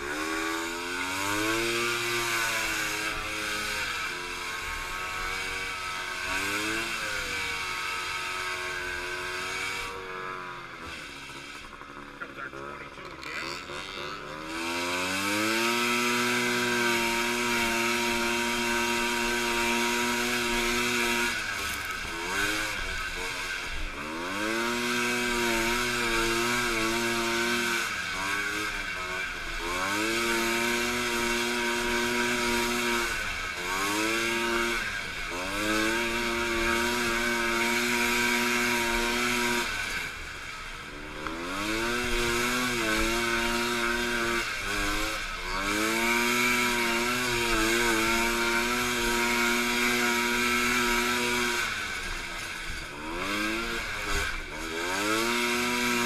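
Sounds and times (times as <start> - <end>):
snowmobile engine at high revs: 0.0 - 56.0.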